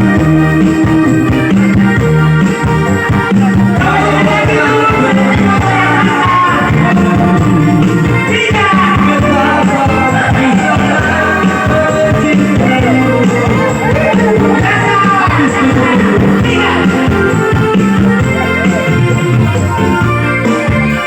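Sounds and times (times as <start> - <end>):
song over sound system: 0.0 - 21.0.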